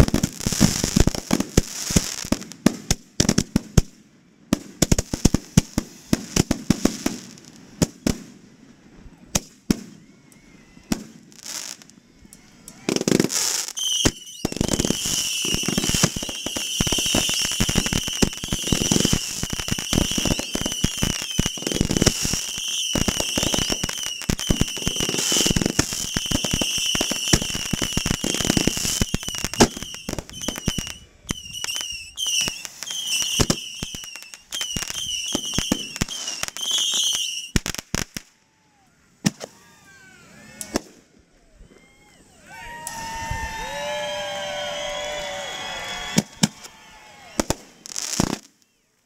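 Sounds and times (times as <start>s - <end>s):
fireworks whistling: 0.0s - 3.8s, 9.3s - 48.9s
fireworks bangs and crackles: 0.0s - 10.1s, 10.8s - 12.0s, 12.7s - 38.3s, 40.6s - 41.0s, 43.0s - 48.7s.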